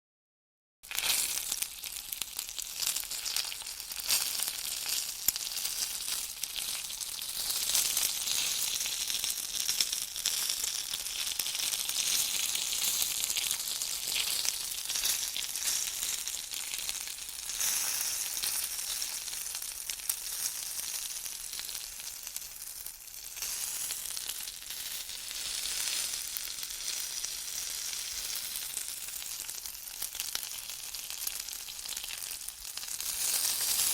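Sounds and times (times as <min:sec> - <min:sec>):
bacon sizzling in a pan: 0:00.8 - 0:33.9.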